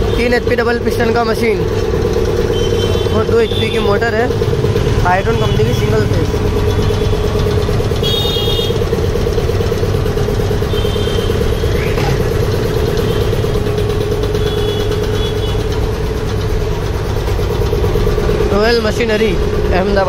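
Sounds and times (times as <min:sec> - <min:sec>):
air compressor humming: 0:00.0 - 0:20.0.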